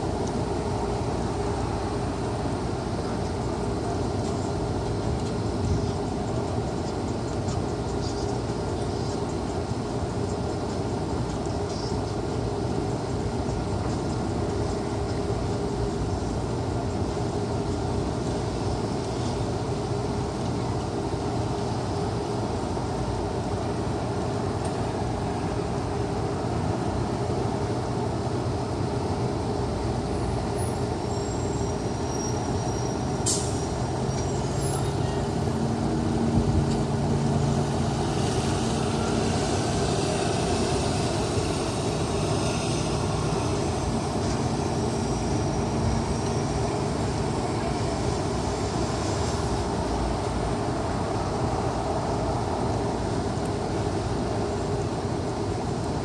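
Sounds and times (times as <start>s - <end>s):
city traffic hum: 0.0s - 56.0s
heavy vehicle engine: 0.0s - 56.0s.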